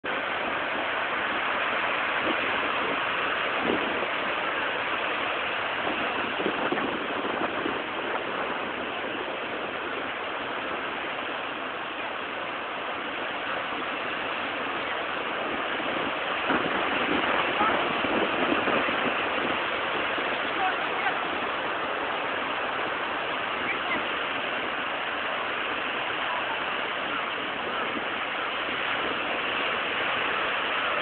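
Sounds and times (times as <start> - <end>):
rough surf roaring: 0.0 - 31.0.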